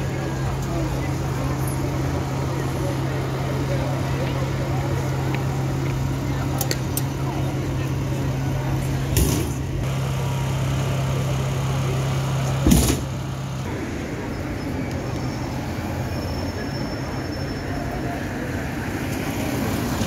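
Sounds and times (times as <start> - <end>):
traffic: 0.0 - 20.0.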